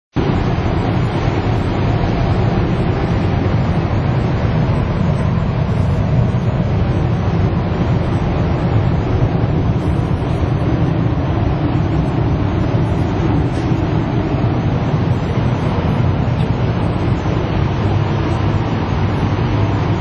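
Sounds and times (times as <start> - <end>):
train interior low rumble: 0.1 - 20.0.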